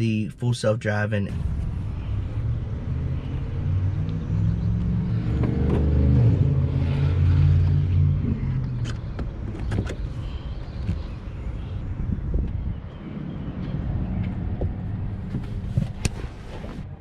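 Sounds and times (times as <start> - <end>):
car tyre rumble on road: 1.3 - 17.0.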